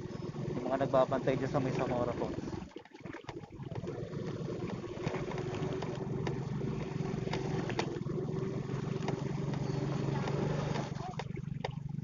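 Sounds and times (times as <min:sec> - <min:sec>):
motorcycle engine running: 0:00.0 - 0:02.7, 0:03.5 - 0:12.0.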